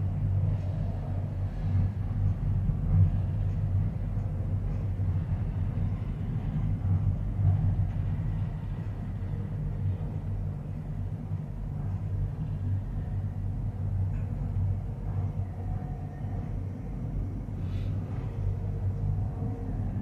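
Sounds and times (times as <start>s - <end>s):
faint hum: 0.0s - 20.0s
gondola cabin rumble: 0.0s - 20.0s.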